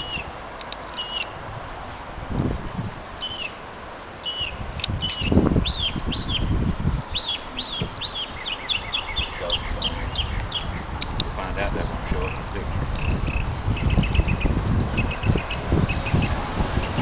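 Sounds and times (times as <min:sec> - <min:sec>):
songbirds chirping: 0:00.0 - 0:17.0
low microphone rumble: 0:01.4 - 0:03.5, 0:04.4 - 0:17.0.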